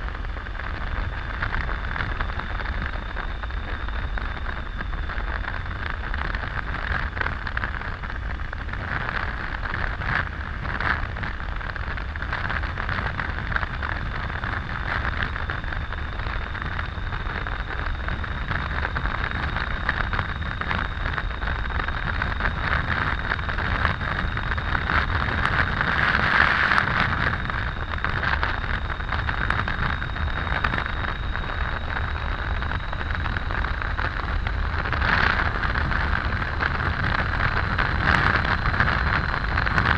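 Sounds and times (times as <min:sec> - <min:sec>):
motorcycle road noise at cruising speed: 0:00.0 - 0:39.9.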